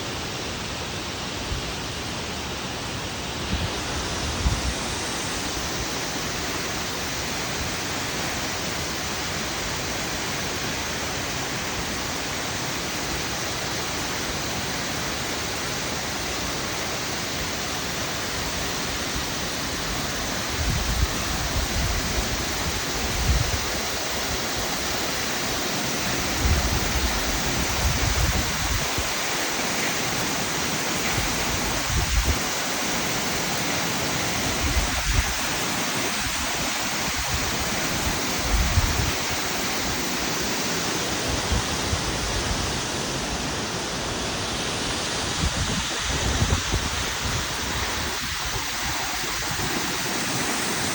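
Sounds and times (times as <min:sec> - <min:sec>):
waterfall rushing: 0:02.3 - 0:50.9.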